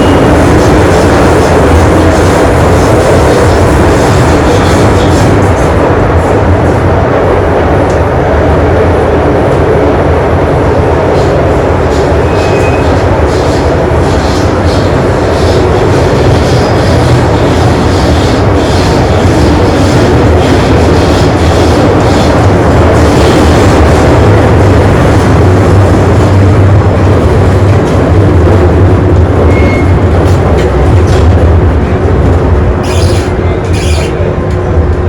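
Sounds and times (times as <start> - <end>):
rail clicks: 0.0 - 35.0
train wheels and motors rumbling: 0.0 - 35.0.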